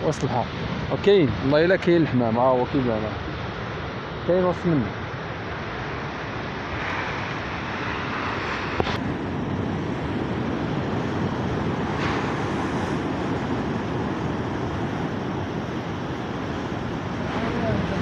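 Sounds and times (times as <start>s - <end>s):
surf washing against rocks: 0.0s - 18.0s
wind rumbling on microphone: 0.0s - 18.0s.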